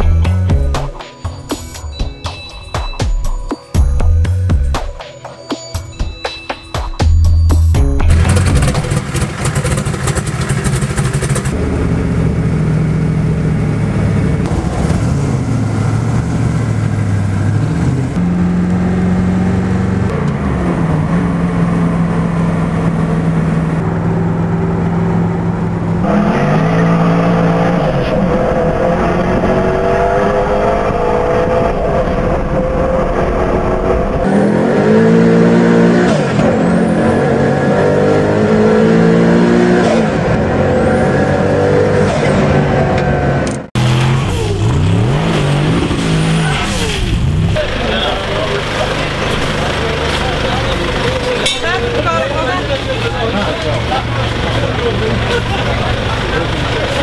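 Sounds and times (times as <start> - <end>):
car engine accelerating: 7.8 - 57.0.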